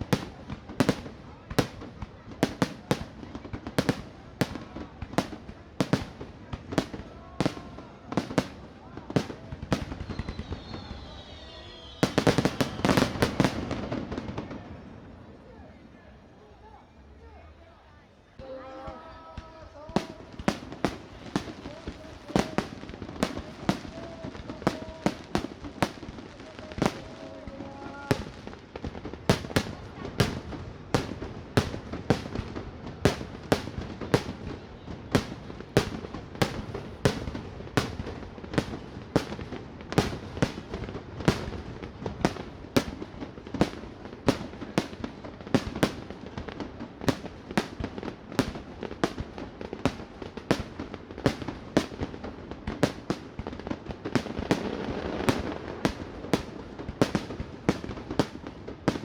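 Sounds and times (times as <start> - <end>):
fireworks bangs: 0.0 - 15.6, 18.4 - 59.0.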